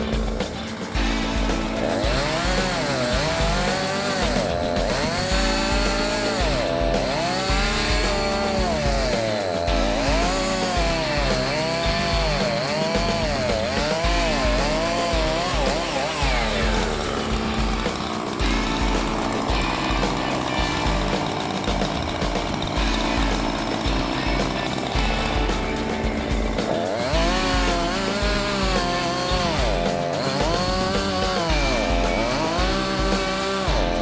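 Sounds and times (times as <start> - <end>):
background music with steady beat: 0.0 - 34.0
chainsaw engine revving: 0.0 - 34.0.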